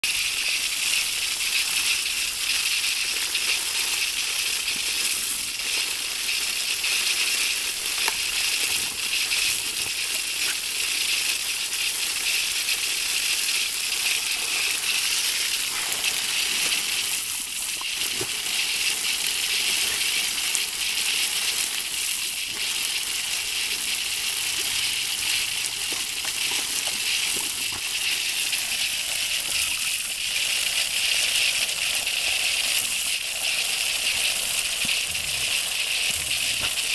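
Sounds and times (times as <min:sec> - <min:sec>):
spray pattering on leaves: 0:00.0 - 0:36.9
hose spray hissing: 0:00.1 - 0:36.9.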